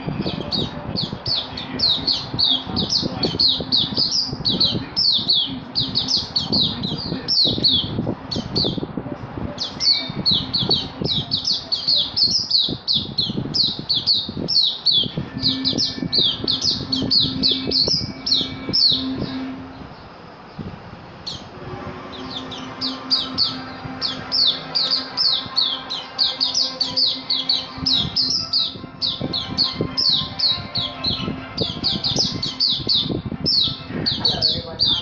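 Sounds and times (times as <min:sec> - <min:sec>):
bird singing high notes: 0:00.0 - 0:08.9, 0:09.5 - 0:20.2, 0:21.2 - 0:35.0.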